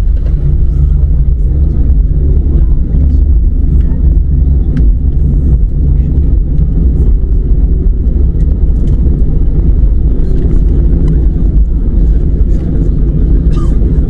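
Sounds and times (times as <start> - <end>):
jet engines idling in cabin: 0.0 - 14.0.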